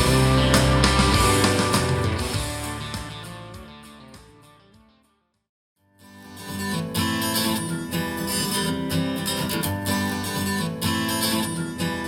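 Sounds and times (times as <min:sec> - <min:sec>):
pop song with acoustic guitar: 0:00.0 - 0:04.6, 0:06.0 - 0:12.0.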